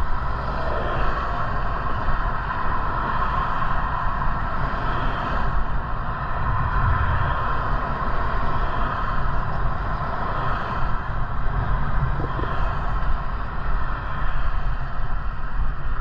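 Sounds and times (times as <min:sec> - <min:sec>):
road noise rumble: 0:00.0 - 0:16.0
wind rushing on microphone: 0:00.0 - 0:16.0.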